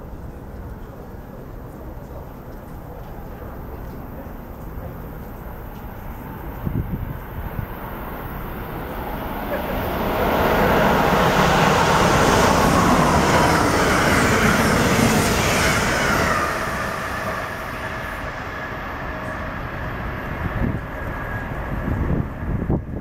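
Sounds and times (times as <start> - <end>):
electric train passing at speed: 0.0 - 23.0.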